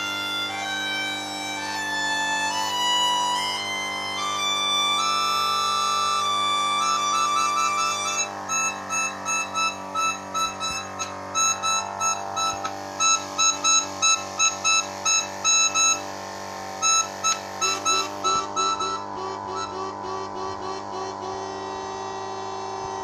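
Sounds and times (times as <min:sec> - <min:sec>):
melodica notes: 0:00.0 - 0:23.0
steady low hum: 0:00.0 - 0:23.0.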